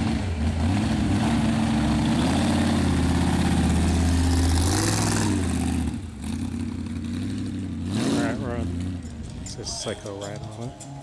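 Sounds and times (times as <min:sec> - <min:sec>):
hot rod engines passing: 0:00.0 - 0:11.0.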